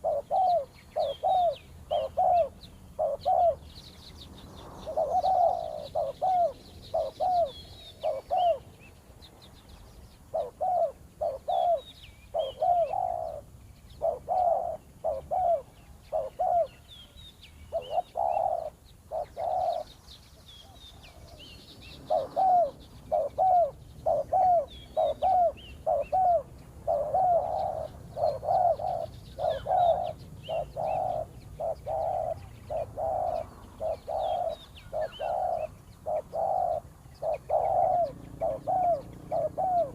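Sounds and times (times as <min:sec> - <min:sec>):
doves cooing: 0:00.0 - 0:03.7, 0:04.8 - 0:08.7, 0:10.2 - 0:16.9, 0:17.7 - 0:20.0, 0:20.6 - 0:39.9
small birds chirping: 0:00.0 - 0:39.9.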